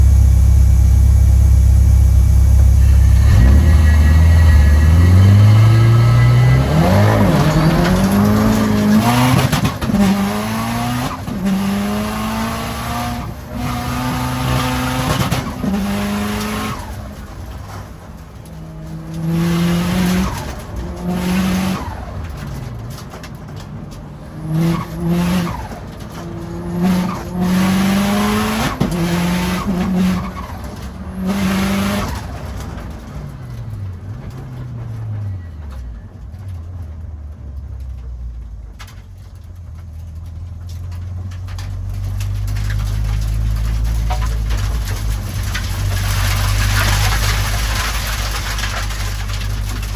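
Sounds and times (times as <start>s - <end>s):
car engine accelerating hard: 0.0s - 39.3s, 40.0s - 49.9s.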